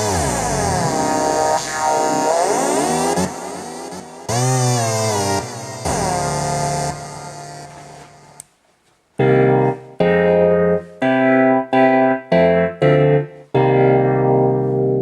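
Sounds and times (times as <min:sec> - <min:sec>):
synthesizer notes: 0:00.0 - 0:08.4, 0:09.2 - 0:15.0.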